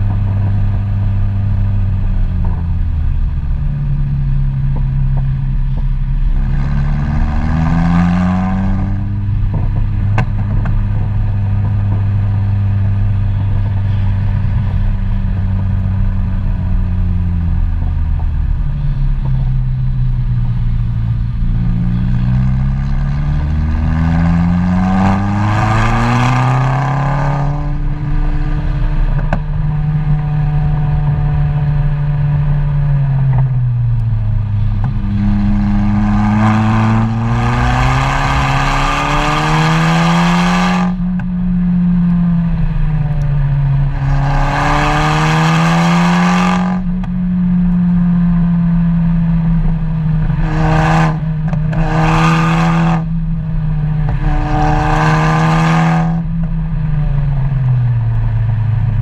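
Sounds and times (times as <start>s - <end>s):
vehicle engine accelerating: 0.0s - 59.0s.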